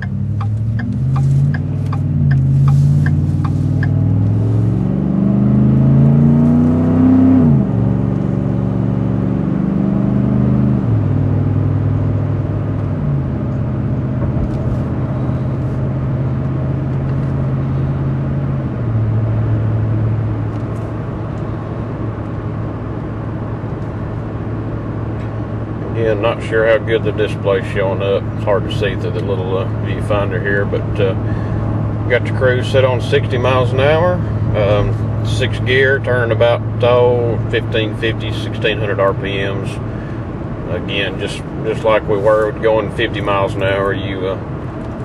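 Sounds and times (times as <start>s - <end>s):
truck engine accelerating: 0.0s - 45.0s.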